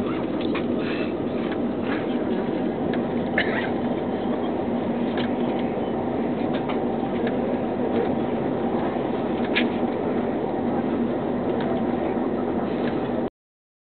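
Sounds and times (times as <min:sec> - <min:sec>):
train rumble inside carriage: 0:00.0 - 0:13.3.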